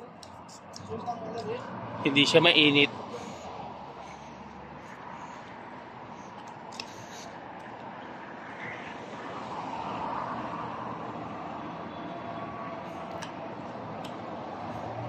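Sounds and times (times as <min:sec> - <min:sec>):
distant traffic: 0:00.0 - 0:15.0.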